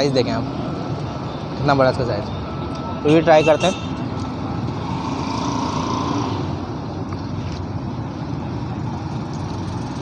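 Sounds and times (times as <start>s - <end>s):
road traffic engines: 0.0s - 10.0s.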